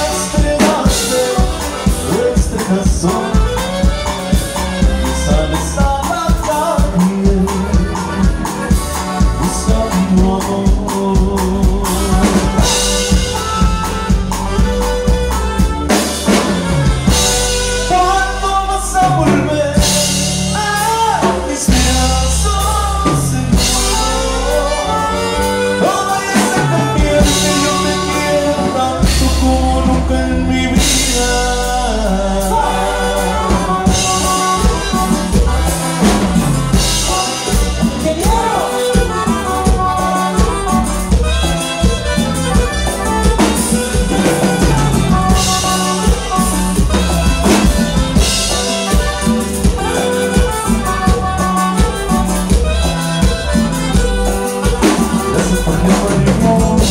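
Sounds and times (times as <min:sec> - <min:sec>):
band music with singer: 0:00.0 - 0:56.9.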